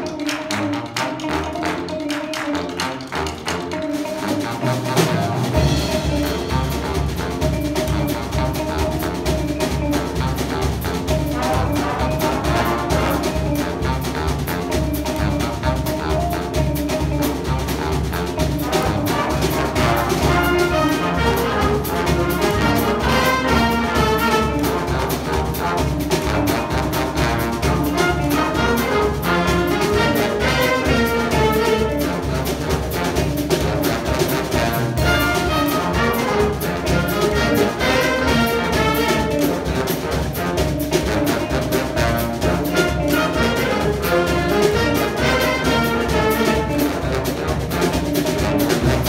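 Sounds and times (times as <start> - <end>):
jazz big band playing: 0.0 - 49.0.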